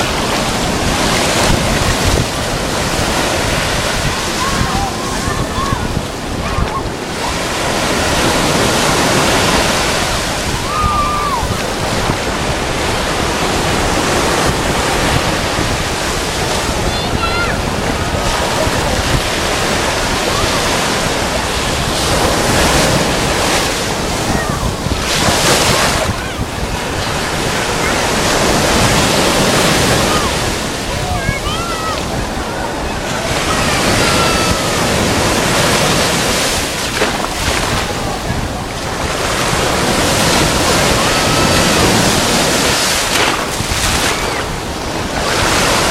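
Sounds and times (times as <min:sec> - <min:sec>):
waves washing over sand: 0:00.0 - 0:45.9.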